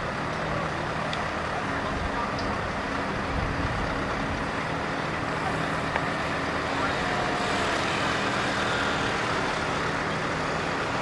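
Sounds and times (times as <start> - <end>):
traffic noise: 0.0 - 11.0
truck diesel engine running: 0.0 - 11.0.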